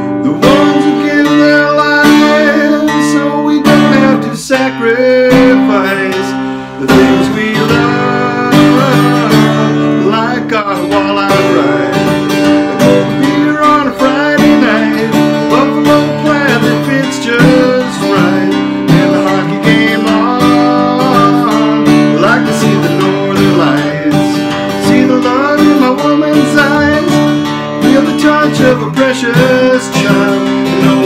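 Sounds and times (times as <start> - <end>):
acoustic guitar strumming: 0.0 - 31.0
man singing: 0.0 - 31.0.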